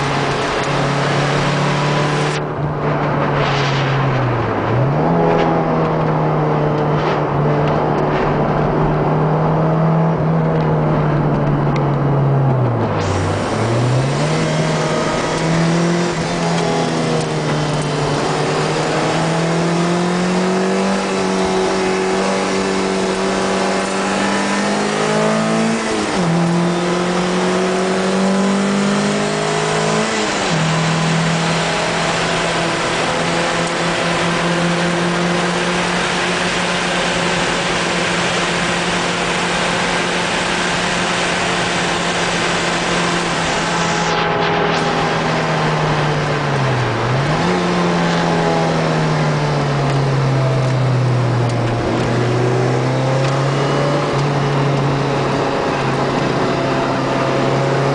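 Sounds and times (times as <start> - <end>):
car engine at racing speed: 0.0 - 57.9
wind and road noise: 0.0 - 57.9.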